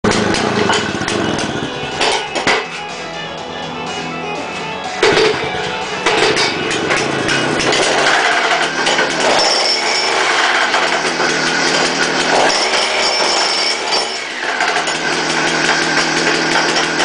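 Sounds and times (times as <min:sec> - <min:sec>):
petrol breaker hammering: 0:00.0 - 0:02.8, 0:04.9 - 0:17.0.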